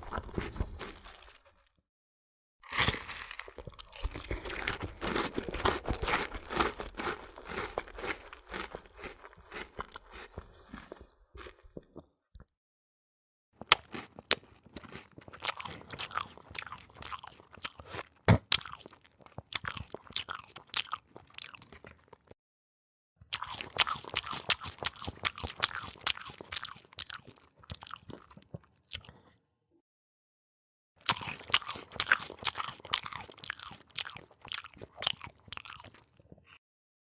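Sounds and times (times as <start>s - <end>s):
person chewing crunchy food: 0.0s - 1.7s, 2.6s - 12.5s, 13.6s - 22.4s, 23.3s - 29.3s, 31.0s - 36.6s.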